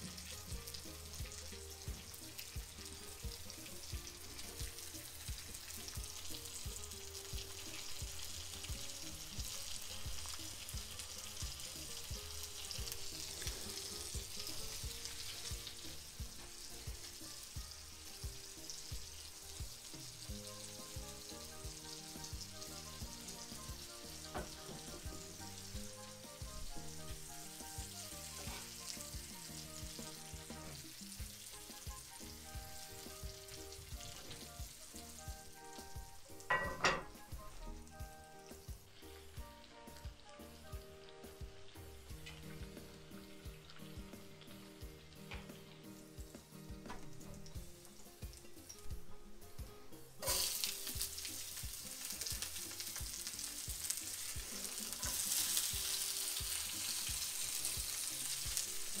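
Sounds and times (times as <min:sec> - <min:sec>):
background music with beat: 0:00.0 - 0:59.0
fish frying in a pan: 0:00.0 - 0:59.0.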